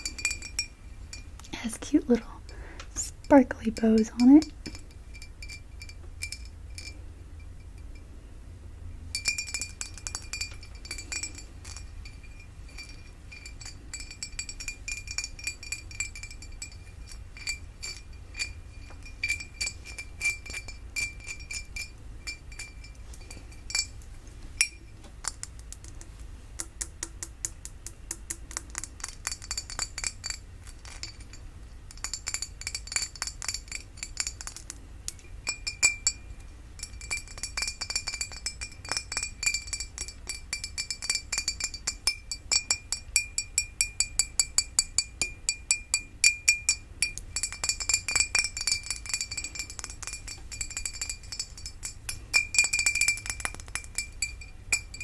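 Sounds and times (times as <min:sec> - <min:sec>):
glass vase tapped ringing: 0:00.0 - 0:01.4, 0:03.0 - 0:08.1, 0:09.1 - 0:24.0, 0:24.6 - 0:25.5, 0:26.6 - 0:55.0.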